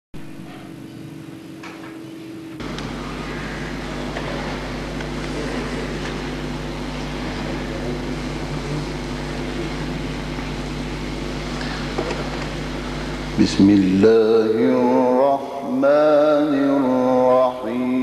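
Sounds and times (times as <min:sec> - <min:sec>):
low electrical hum: 0:00.2 - 0:18.0.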